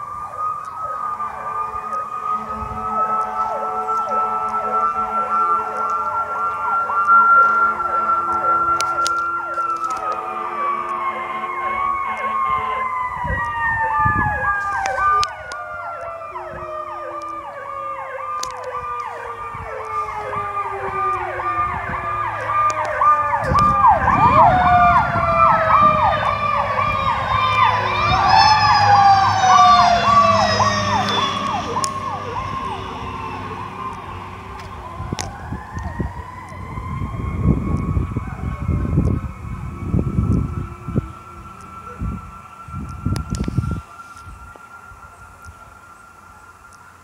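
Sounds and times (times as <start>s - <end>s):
heavy engine rumbling: 0.0s - 46.3s
siren wailing: 0.0s - 47.0s
siren yelping: 0.0s - 47.0s.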